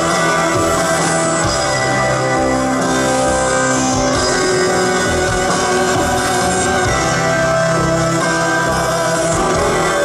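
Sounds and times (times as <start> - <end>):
electric guitar: 0.0 - 10.0
live rock band: 0.0 - 10.0.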